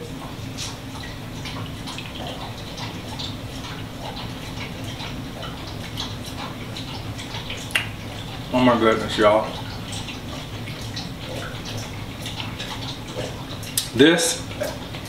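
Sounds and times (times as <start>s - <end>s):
dog slurping water: 0.0s - 15.0s.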